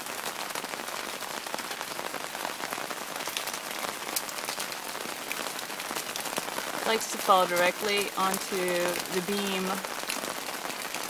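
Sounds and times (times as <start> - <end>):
light rain: 0.0 - 11.0
water dripping onto plastic: 1.5 - 11.0.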